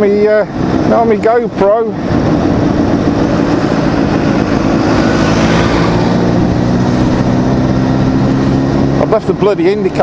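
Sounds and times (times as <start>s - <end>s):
wind and road noise: 0.0s - 10.0s
motorcycle engine running: 0.4s - 10.0s.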